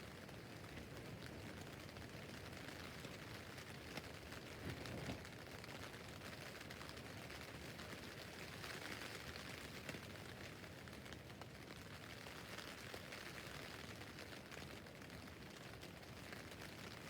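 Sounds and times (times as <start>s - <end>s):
rain pattering on a tent roof: 0.0s - 17.0s.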